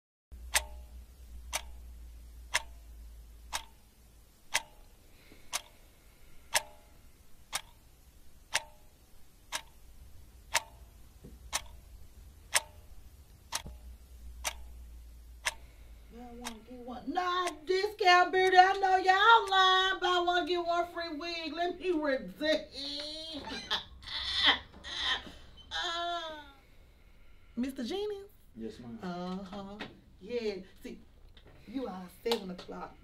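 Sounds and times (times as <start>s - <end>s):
wall clock ticking: 0.3s - 25.4s, 28.6s - 33.0s
faint low hum: 0.3s - 33.0s.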